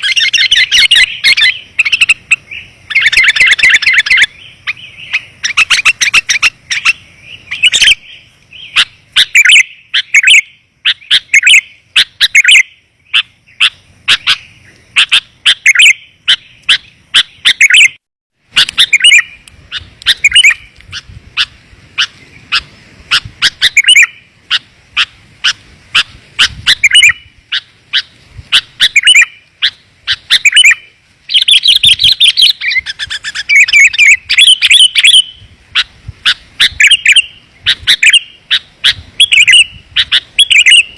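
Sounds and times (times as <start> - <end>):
bulbul song: 0.0 - 40.9.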